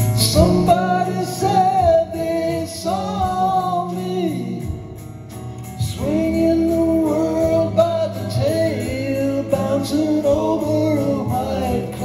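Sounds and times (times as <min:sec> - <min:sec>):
man singing: 0:00.0 - 0:05.0, 0:05.8 - 0:12.0
acoustic guitar: 0:00.0 - 0:12.0
bass guitar: 0:00.0 - 0:12.0
drums: 0:00.0 - 0:12.0
electric guitar: 0:00.0 - 0:12.0.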